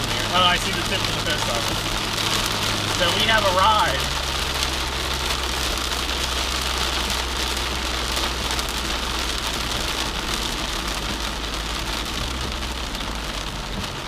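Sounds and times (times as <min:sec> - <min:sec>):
car engine droning: 0:00.0 - 0:14.0
heavy rain on car roof: 0:00.0 - 0:14.0.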